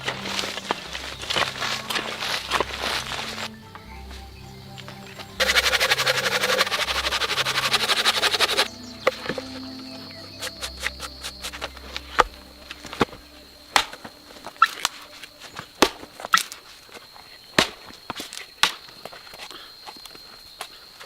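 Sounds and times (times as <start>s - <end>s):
faint steady high tone: 0.0s - 17.4s.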